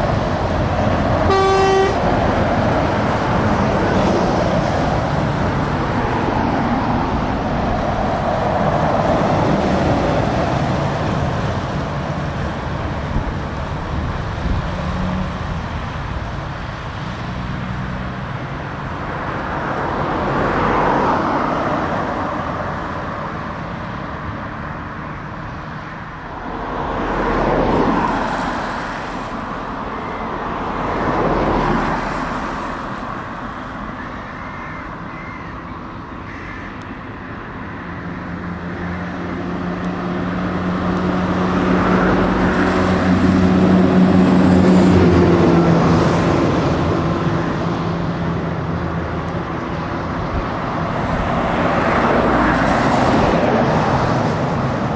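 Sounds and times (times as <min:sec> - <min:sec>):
heavy trucks driving past: 0:00.0 - 0:54.9.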